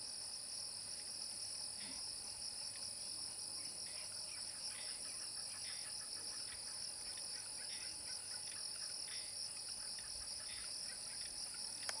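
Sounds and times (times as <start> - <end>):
shrill insect chorus: 0.0 - 12.0
faint chirps: 1.7 - 12.0.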